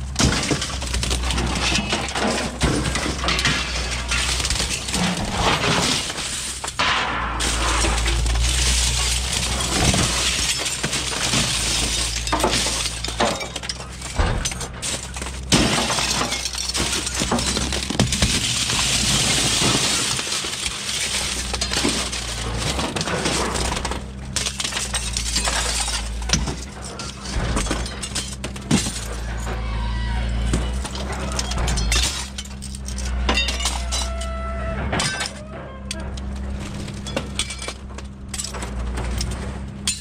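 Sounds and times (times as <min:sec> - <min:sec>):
broken glass clinking and crunching: 0:00.0 - 0:40.0.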